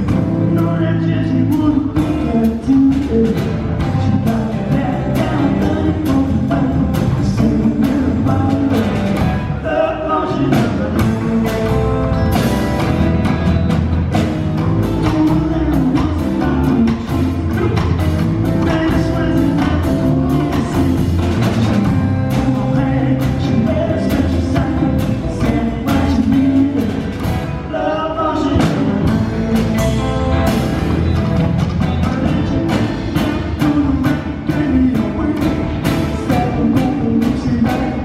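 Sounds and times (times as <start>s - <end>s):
steady drum beat: 0.0s - 9.6s, 10.4s - 27.7s, 28.5s - 38.0s
live rock band playing: 0.0s - 38.0s.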